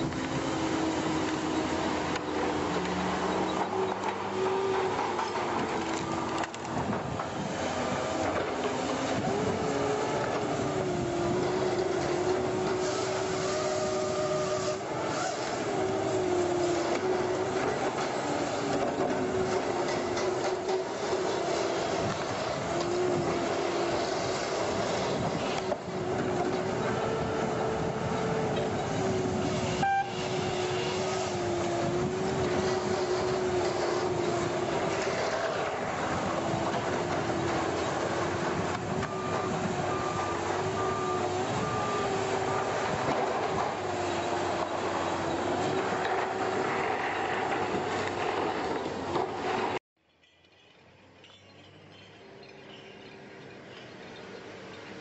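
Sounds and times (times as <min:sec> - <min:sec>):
heavy diesel engine running: 0:00.0 - 0:49.8.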